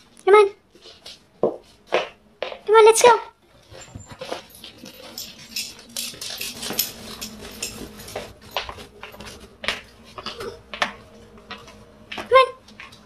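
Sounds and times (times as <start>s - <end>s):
dog paws clicking on floor: 0.1s - 13.0s.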